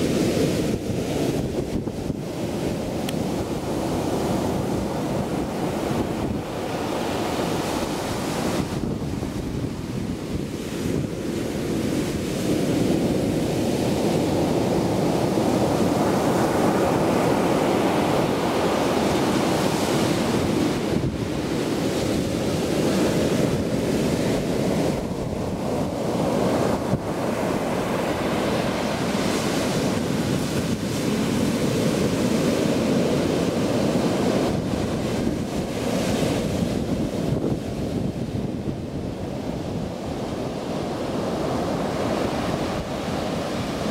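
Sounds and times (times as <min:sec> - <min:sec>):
storm surf breaking: 0:00.0 - 0:43.9
wind buffeting microphone: 0:00.0 - 0:43.9.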